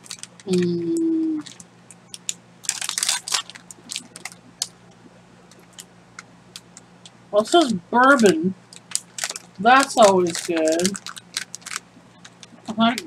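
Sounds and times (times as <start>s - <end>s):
plastic snack bag crinkling: 0.0s - 4.8s, 5.5s - 6.8s, 7.4s - 13.0s.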